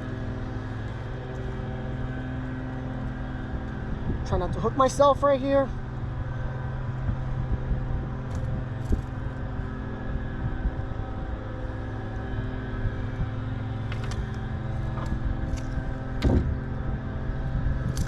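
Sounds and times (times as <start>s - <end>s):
steady motor hum: 0.0s - 18.0s.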